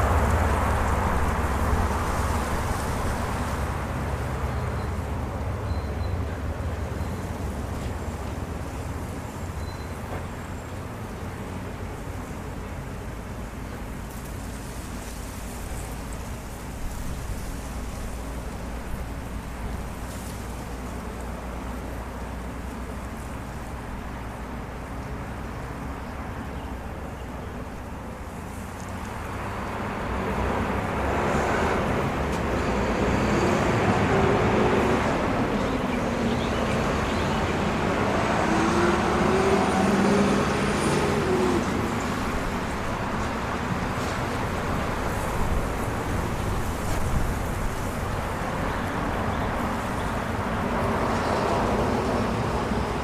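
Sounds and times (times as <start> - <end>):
road traffic hum: 0.0 - 53.0.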